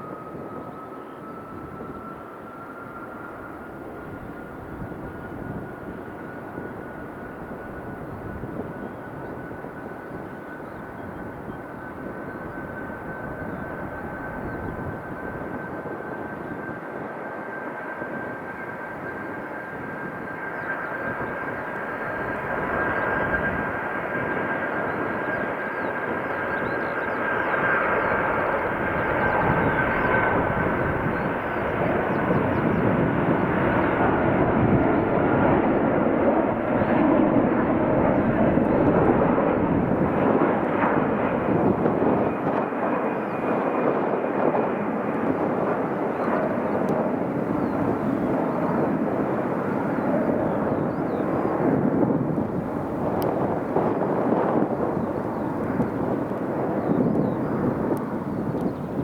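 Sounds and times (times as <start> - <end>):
jet engine whine and rumble: 0.0 - 59.0.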